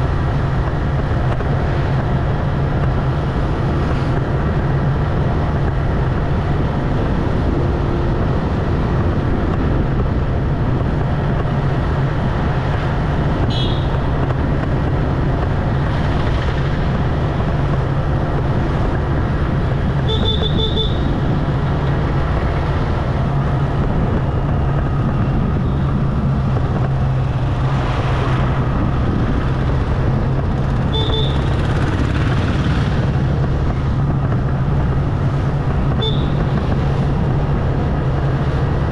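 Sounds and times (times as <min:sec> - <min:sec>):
motorbike engine cruising: 0:00.0 - 0:38.9
road and wind noise: 0:00.0 - 0:38.9.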